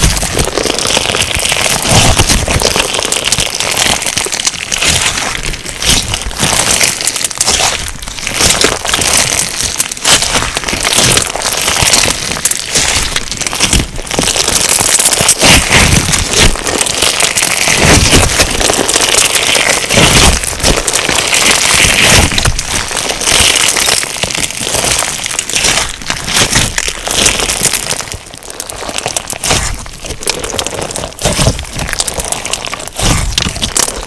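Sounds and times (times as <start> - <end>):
crunchy slime crackling: 0.0 - 34.0.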